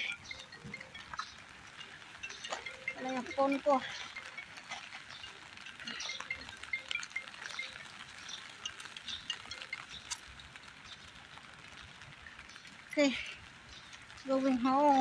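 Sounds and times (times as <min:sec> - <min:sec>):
light rain on paving: 0:00.0 - 0:15.0.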